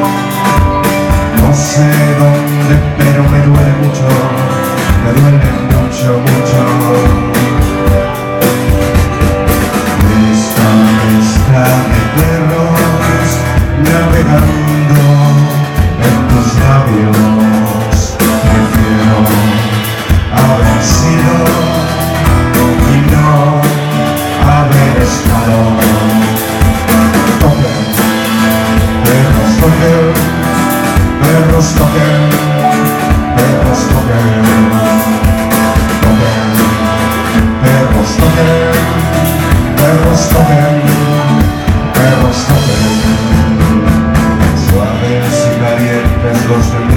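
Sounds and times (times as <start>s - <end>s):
drum kit beat: 0.0s - 46.9s
electric guitar: 0.0s - 46.9s.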